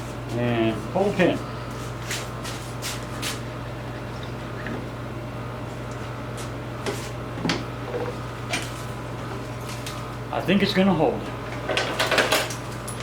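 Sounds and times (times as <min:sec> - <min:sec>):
air conditioner hum: 0:00.0 - 0:13.0.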